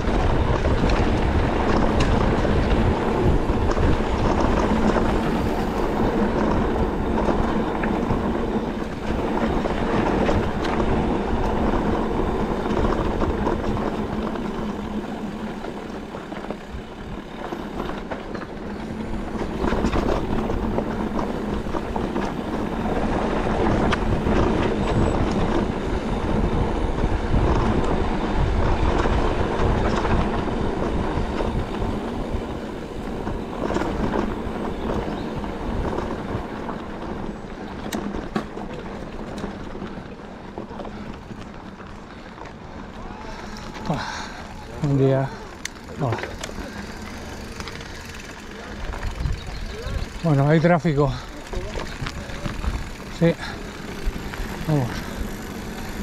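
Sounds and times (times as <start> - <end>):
bike rattling over rough ground: 0.0 - 56.0.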